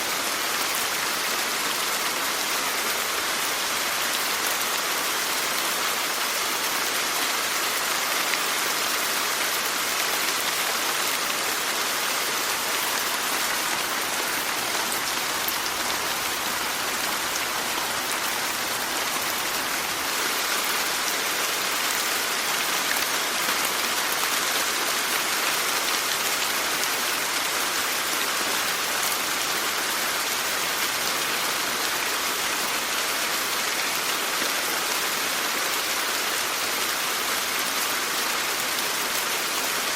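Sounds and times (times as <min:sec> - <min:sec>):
rain hissing on surfaces: 0:00.0 - 0:39.9.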